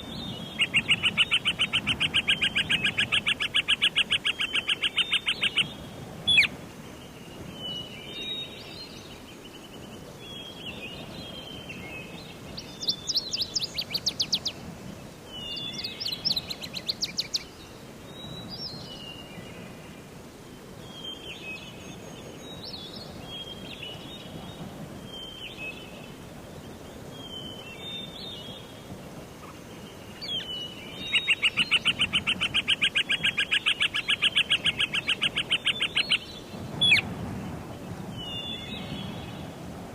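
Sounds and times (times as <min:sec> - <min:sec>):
songbirds singing: 0:00.0 - 0:39.8
faint steady hiss: 0:00.0 - 0:39.9.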